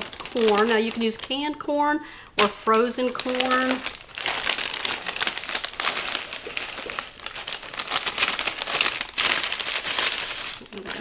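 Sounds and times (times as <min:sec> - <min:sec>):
plastic bag crinkling: 0:00.0 - 0:01.8, 0:02.4 - 0:11.0.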